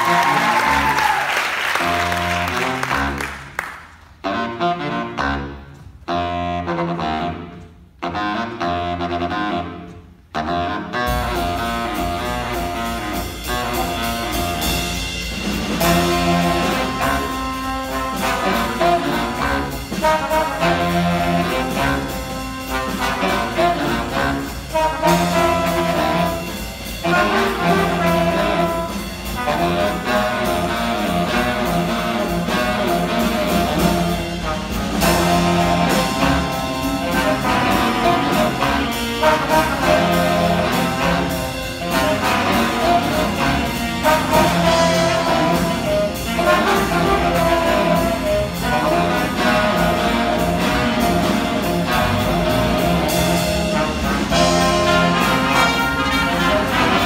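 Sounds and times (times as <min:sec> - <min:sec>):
drums: 0:00.0 - 0:57.0
trombones: 0:00.0 - 0:57.0
trumpets: 0:00.0 - 0:57.0
saxophones: 0:04.2 - 0:57.0.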